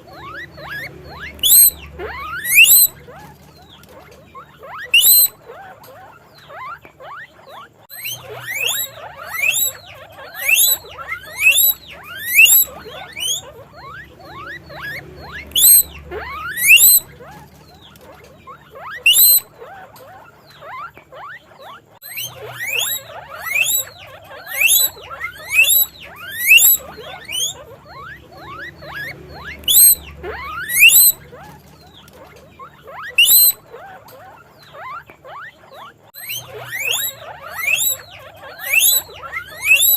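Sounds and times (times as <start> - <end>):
guinea pigs squealing: 0.0 - 39.9.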